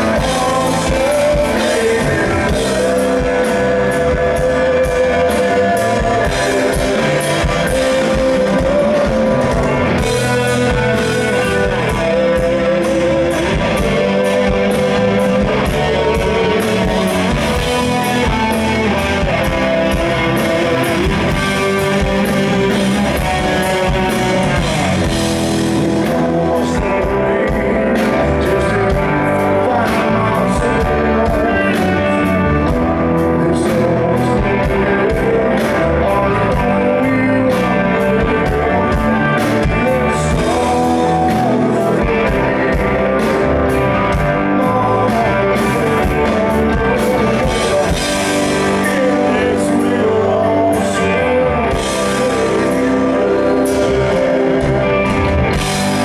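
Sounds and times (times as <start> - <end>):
drums: 0.0 - 56.0
electric guitar: 0.0 - 56.0
keyboard: 0.0 - 56.0
man singing: 0.0 - 56.0.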